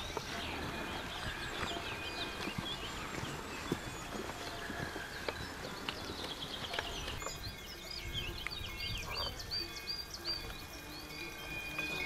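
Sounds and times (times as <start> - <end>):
low outdoor rustle: 0.0 - 12.0
songbird singing: 0.0 - 12.0.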